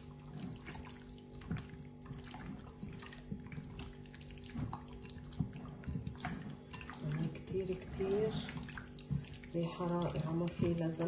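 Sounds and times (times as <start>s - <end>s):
wet squelching of meat by hand: 0.0s - 11.0s.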